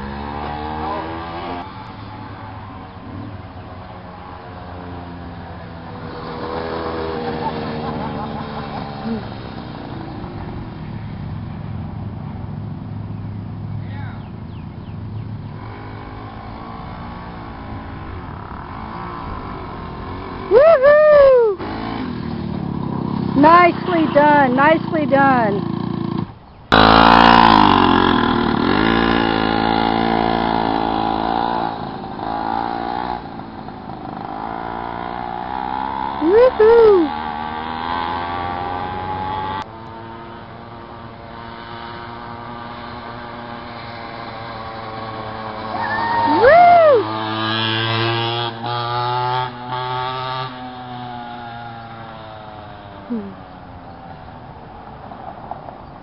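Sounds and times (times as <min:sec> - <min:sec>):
mini bike engine revving: 0:00.0 - 0:11.9, 0:15.2 - 0:55.0.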